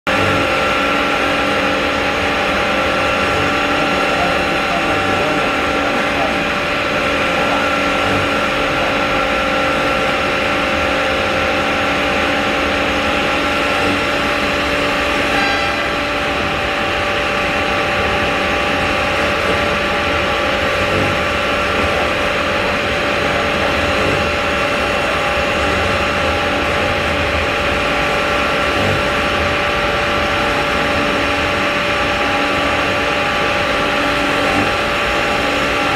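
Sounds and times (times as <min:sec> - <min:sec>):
saw machine humming and whining: 0:00.0 - 0:35.9.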